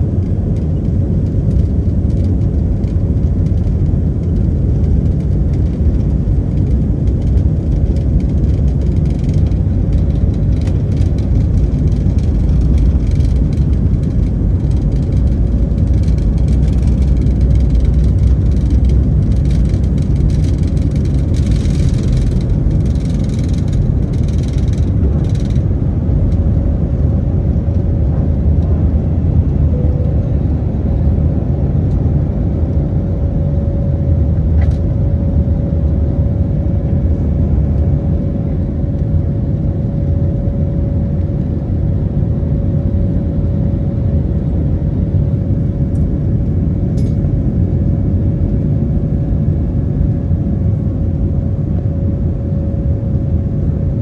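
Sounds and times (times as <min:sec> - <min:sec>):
airliner engine rumble: 0:00.0 - 0:54.0
steady whine: 0:00.0 - 0:54.0.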